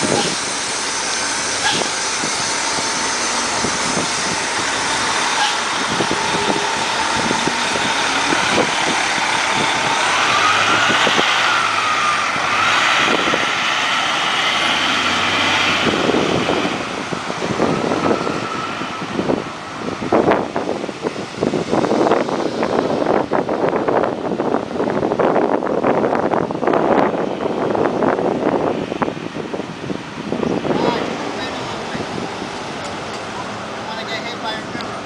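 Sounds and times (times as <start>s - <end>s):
bus diesel engine accelerating: 0.0s - 35.0s
rising whine: 0.0s - 35.0s
wind gusts on microphone: 0.0s - 35.0s.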